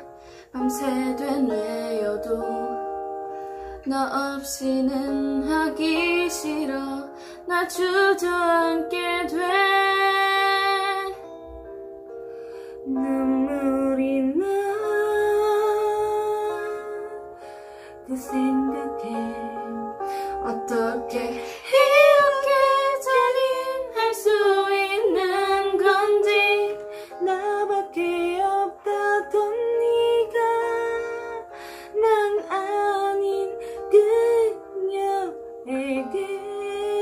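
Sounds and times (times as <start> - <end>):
woman singing a slow ballad: 0.0 - 11.3, 12.7 - 37.0
instrumental backing track: 0.0 - 37.0.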